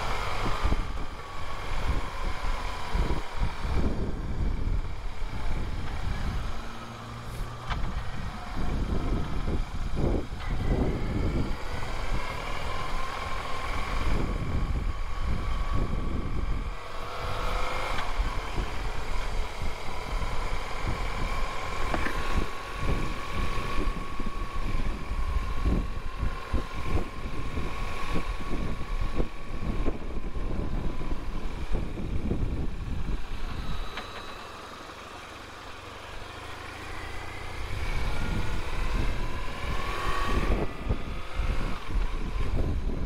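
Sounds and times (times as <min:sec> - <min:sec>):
wind buffeting microphone: 0:00.0 - 0:34.0, 0:36.8 - 0:43.0
motorcycle engine running: 0:00.0 - 0:43.0.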